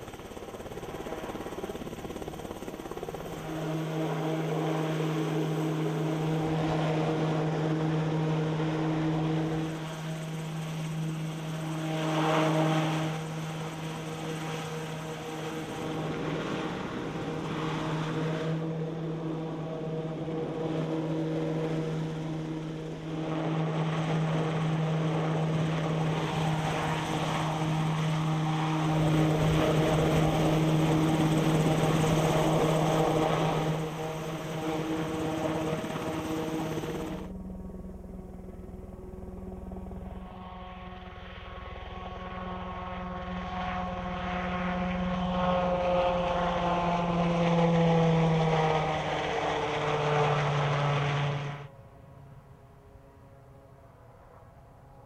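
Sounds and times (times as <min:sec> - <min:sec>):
helicopter flying overhead: 0:00.0 - 0:55.0.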